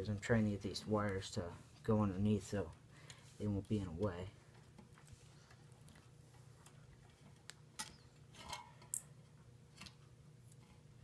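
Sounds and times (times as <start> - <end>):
low steady hum: 0.0 - 11.0
wires rustling: 0.0 - 11.0.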